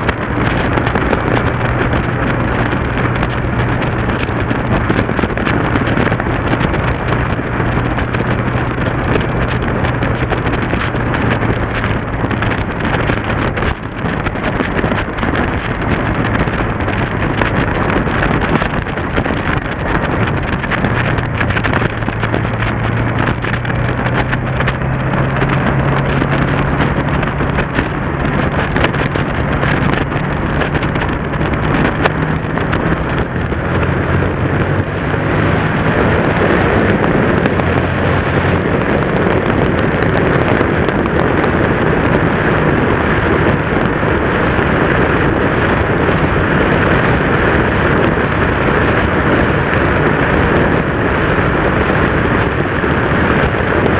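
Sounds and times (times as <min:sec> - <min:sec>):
motorcycle engine cruising: 0:00.0 - 0:53.9
wind rush on camera: 0:00.0 - 0:53.9.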